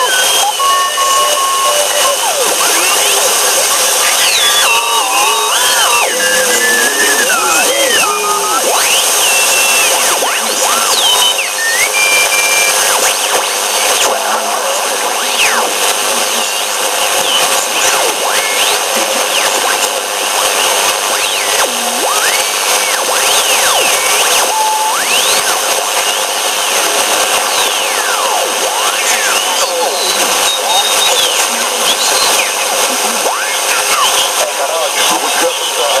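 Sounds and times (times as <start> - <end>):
shortwave radio hiss: 0.0 - 36.0.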